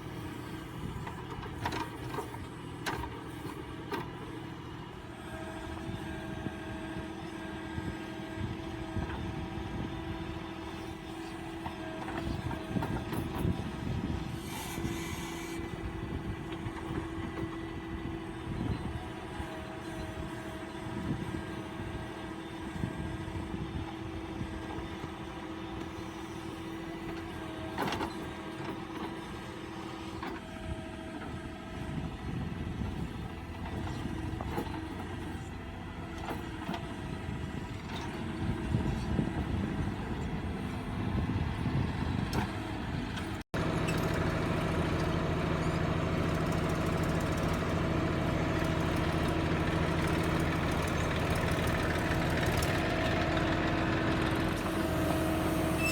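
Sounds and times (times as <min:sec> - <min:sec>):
diesel tractor engine running: 0:00.0 - 0:55.9.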